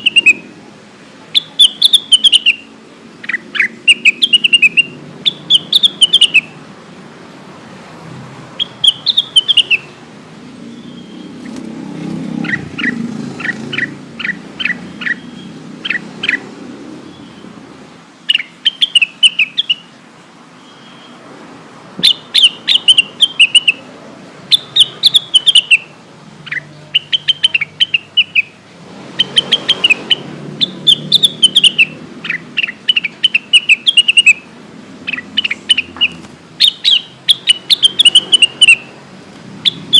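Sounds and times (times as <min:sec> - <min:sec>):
bird chirping: 0:00.0 - 0:00.6, 0:01.2 - 0:06.6, 0:08.5 - 0:21.3, 0:22.0 - 0:39.9.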